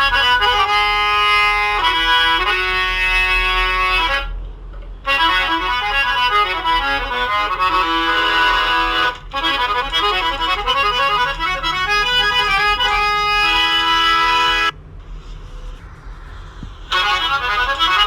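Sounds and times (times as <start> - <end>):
reedy instrumental melody: 0.0 - 4.3, 5.1 - 14.7, 16.3 - 18.0
faint low hum: 0.0 - 18.0.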